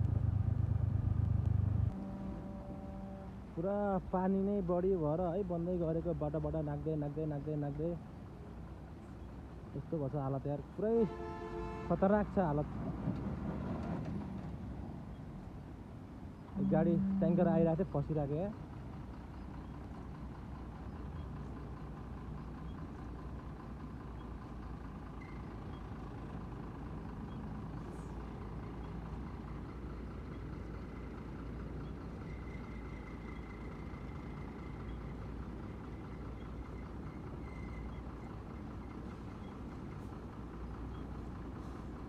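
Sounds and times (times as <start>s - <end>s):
truck diesel engine running: 0.0s - 10.1s, 16.5s - 42.0s.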